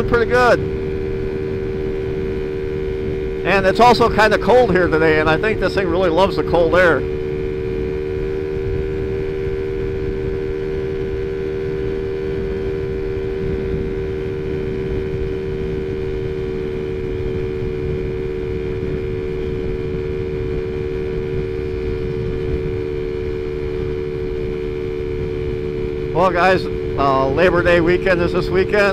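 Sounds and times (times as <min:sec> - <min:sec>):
scooter engine droning: 0:00.0 - 0:28.9
wind on microphone: 0:00.0 - 0:28.9.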